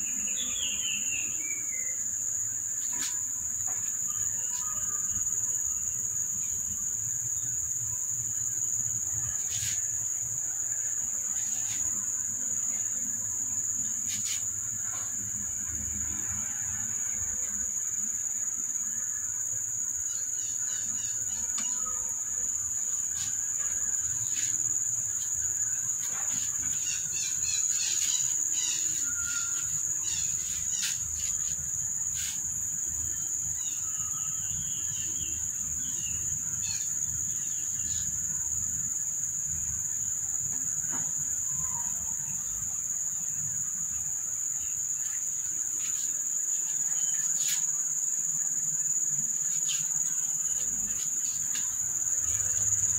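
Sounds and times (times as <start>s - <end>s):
high-pitched insect drone: 0.0s - 52.9s.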